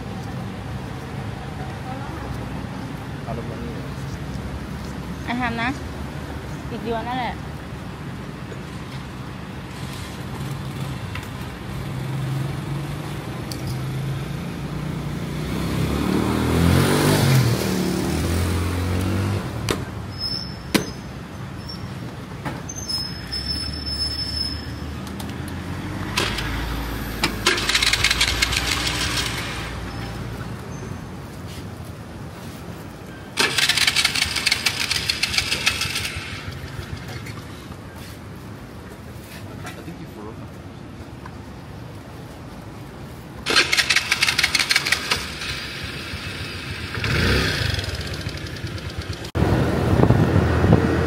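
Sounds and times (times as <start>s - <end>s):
vehicle engines running: 0.0s - 51.0s.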